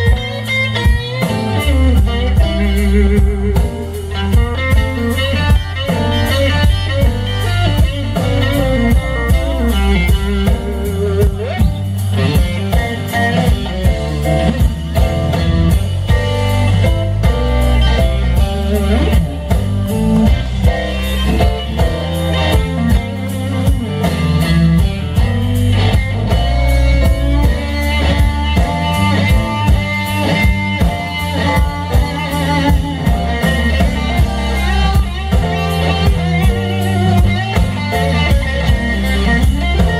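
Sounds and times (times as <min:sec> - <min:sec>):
drum kit: 0:00.0 - 0:39.9
electric bass: 0:00.0 - 0:39.9
electric guitar solo: 0:00.0 - 0:39.9.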